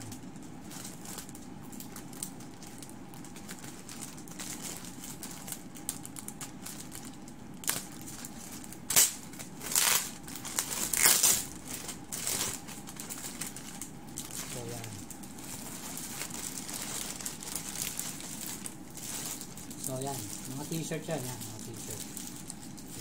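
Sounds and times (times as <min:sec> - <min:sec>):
plastic bag tearing and crinkling: 0:00.1 - 0:23.0.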